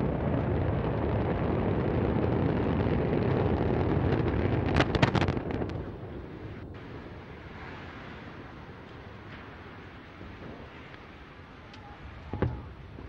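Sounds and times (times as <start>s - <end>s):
explosion bangs and crackles: 0.0s - 11.4s, 12.0s - 13.0s
rocket rumble: 0.0s - 13.0s.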